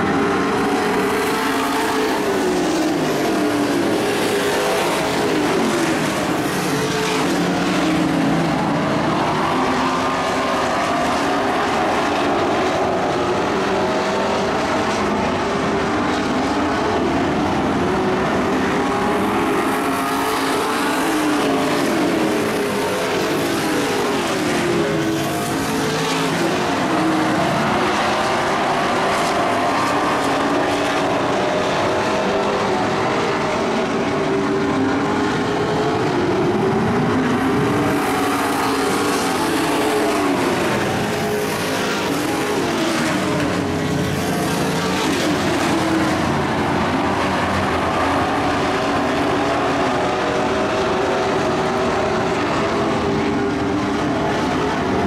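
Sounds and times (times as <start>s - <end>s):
racing truck engines: 0.0s - 55.0s.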